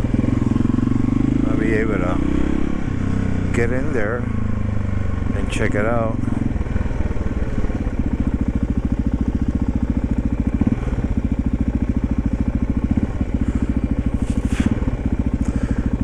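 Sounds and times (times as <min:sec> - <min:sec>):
motorcycle engine running steadily: 0:00.0 - 0:16.0.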